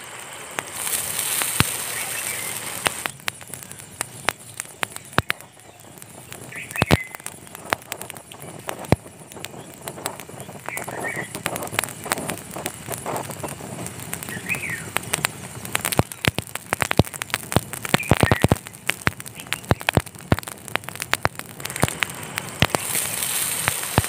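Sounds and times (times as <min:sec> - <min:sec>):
water sizzling on hot stone: 0:00.0 - 0:24.0
wood fire crackling and popping: 0:00.0 - 0:24.0.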